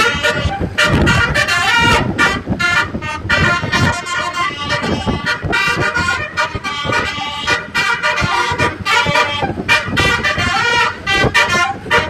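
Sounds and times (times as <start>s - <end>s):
multi-tone bus horn playing a tune: 0.0s - 12.0s.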